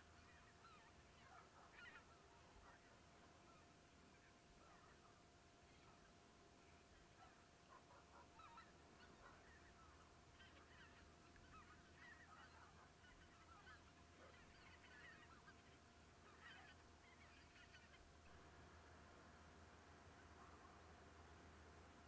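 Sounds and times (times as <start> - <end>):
distant geese honking: 0.0 - 22.0
faint steady hum: 0.0 - 22.0.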